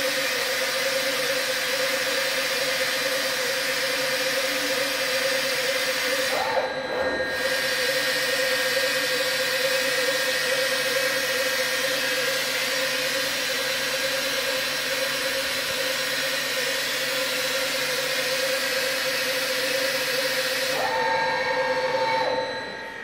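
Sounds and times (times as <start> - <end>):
foam slitting machine hissing: 0.0 - 22.3
machine hum: 0.0 - 23.0.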